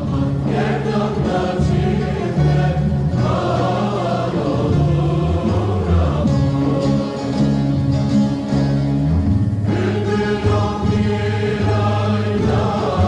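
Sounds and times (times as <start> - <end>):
music with singing on radio: 0.0 - 7.7, 9.7 - 13.0.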